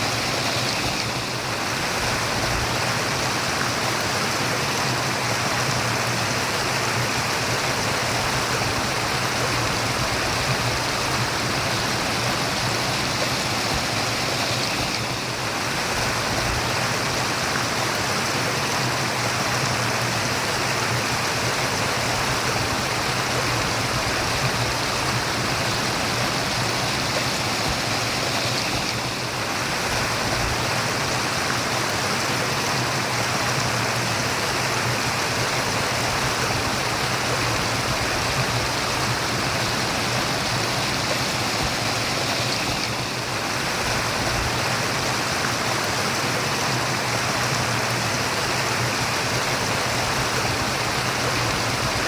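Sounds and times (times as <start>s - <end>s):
stream water babbling: 0.0s - 52.0s.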